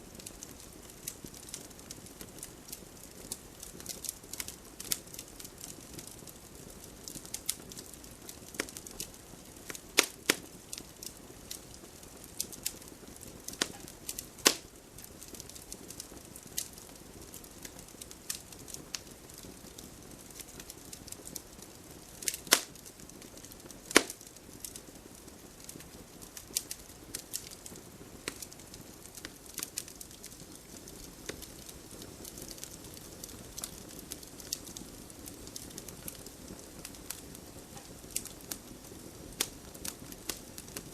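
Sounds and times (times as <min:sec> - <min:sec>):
campfire crackling and popping: 0:00.0 - 0:40.9
soft steady hiss: 0:00.0 - 0:40.9.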